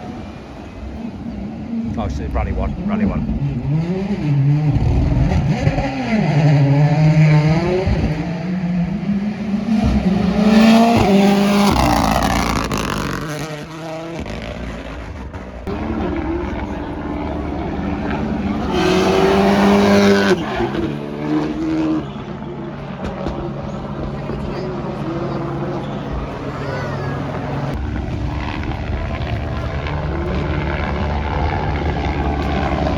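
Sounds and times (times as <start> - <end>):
rally car engine at full throttle: 0.0 - 32.9.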